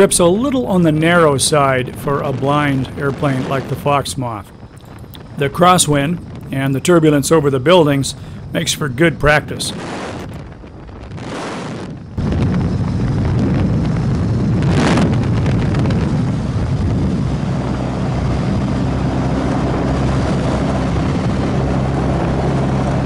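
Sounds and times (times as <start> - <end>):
propeller plane engine running: 0.0 - 23.0
wind rushing past: 0.0 - 23.0.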